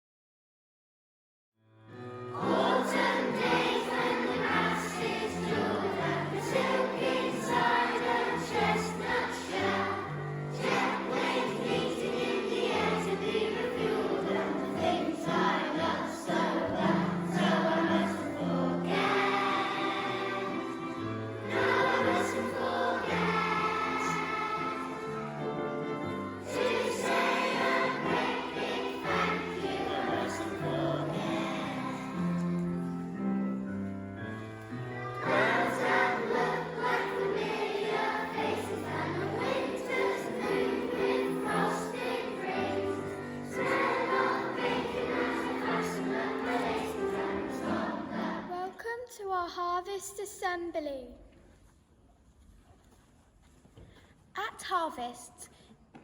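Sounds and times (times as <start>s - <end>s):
musical accompaniment: 1.8s - 48.6s
choir singing: 2.1s - 33.3s, 34.7s - 48.7s.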